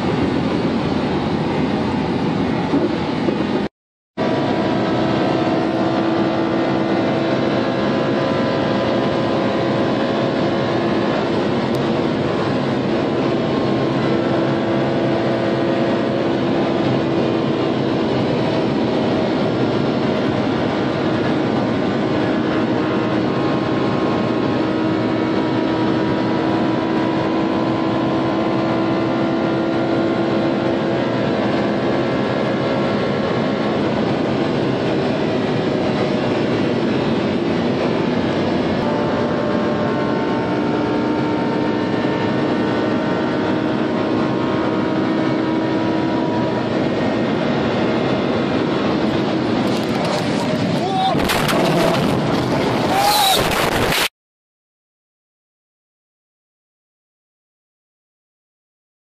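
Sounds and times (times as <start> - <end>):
car engine droning: 0.0 - 53.9
wind and road noise: 0.0 - 54.1.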